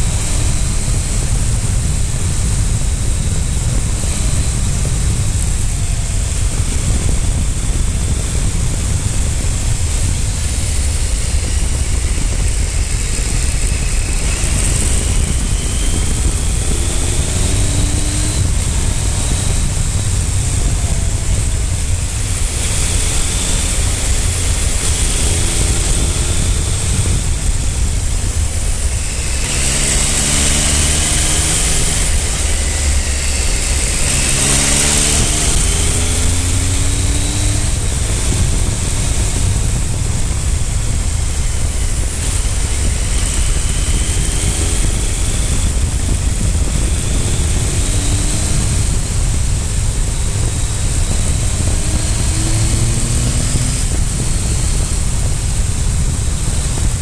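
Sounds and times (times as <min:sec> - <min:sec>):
heavy wind: 0:00.0 - 0:57.0
motorcycle engine accelerating: 0:00.0 - 0:57.0
road rumble: 0:00.0 - 0:57.0.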